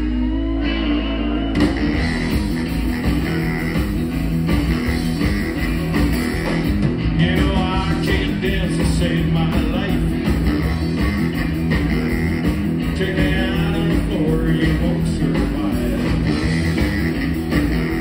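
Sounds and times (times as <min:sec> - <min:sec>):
rockabilly band playing live: 0:00.0 - 0:18.0.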